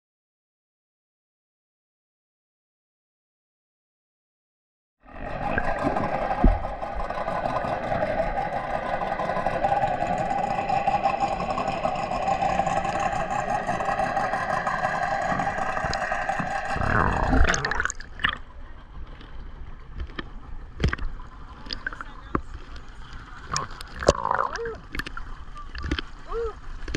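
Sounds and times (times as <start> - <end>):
underwater boat motor hum: 5.0 - 26.9
water lapping and splashing: 5.1 - 26.9.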